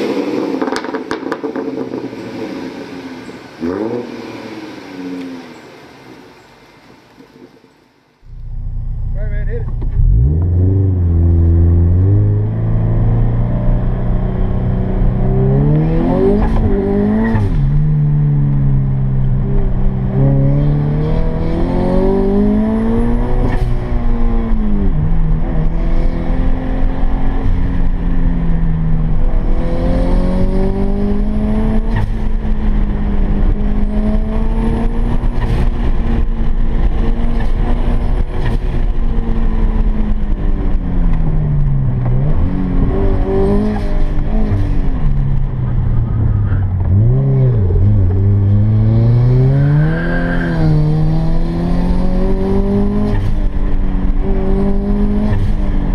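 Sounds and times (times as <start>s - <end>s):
car engine revving: 8.2s - 55.9s.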